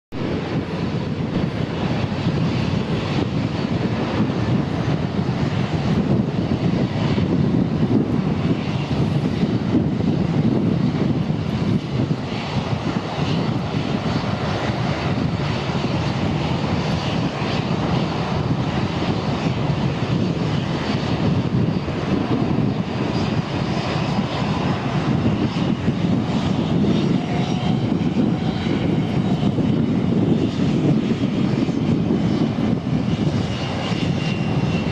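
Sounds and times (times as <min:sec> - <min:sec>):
jet engines running at low power: 0:00.1 - 0:34.9.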